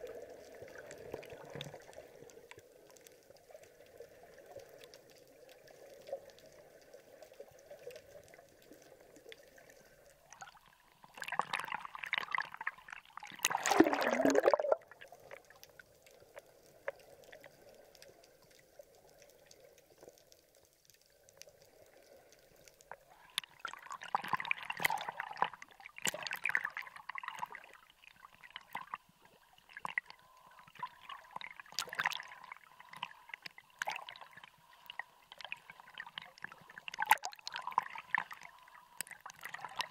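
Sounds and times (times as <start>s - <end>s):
splashing and bubbles: 0.0s - 20.2s, 21.1s - 39.9s
muffled underwater water sloshing: 0.0s - 39.9s.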